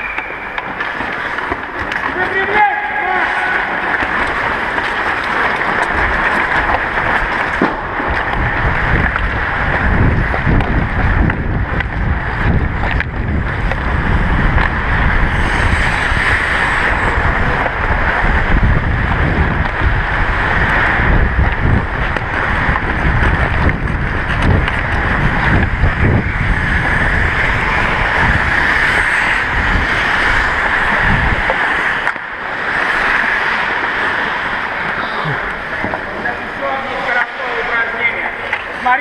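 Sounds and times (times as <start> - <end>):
skate blades scraping ice: 0.0 - 18.8, 19.4 - 39.0
wind rumbling on microphone: 0.0 - 39.0.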